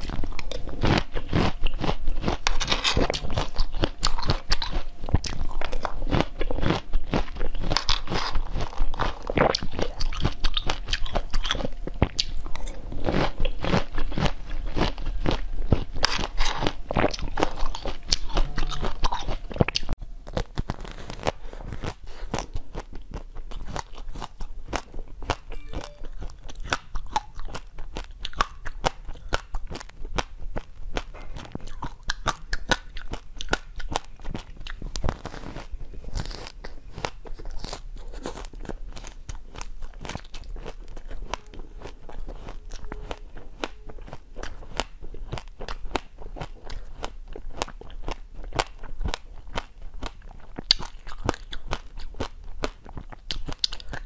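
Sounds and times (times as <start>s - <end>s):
close crunching while eating: 0.0s - 54.0s.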